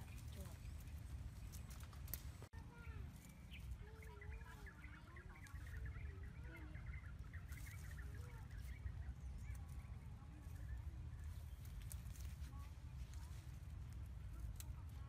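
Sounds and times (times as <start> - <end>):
birds chirping and calling: 0.0 - 12.4
wind rumble on microphone: 0.0 - 15.0.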